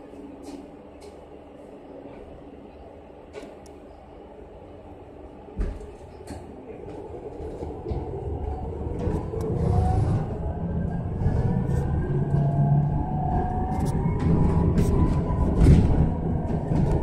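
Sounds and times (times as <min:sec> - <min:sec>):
bus rumble: 0:00.0 - 0:17.0.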